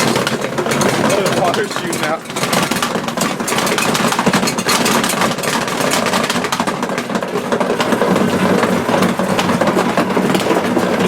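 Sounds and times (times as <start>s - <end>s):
washing machine running: 0.0s - 11.0s.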